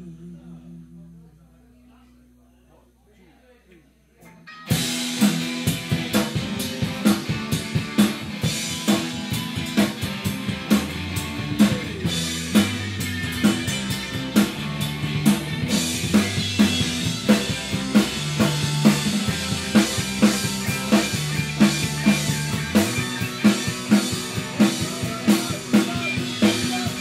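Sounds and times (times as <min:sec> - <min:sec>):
bass line: 0:00.0 - 0:27.0
rock band playing: 0:04.4 - 0:27.0
drum kit beat: 0:04.5 - 0:27.0.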